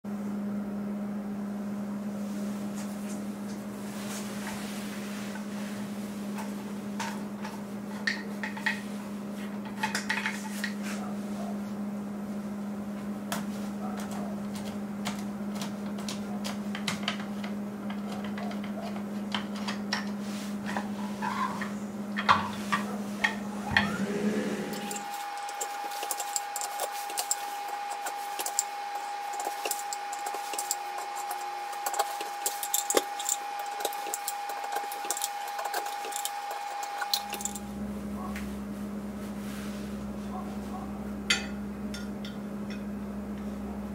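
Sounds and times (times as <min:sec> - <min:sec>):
steady low hum: 0:00.1 - 0:43.9.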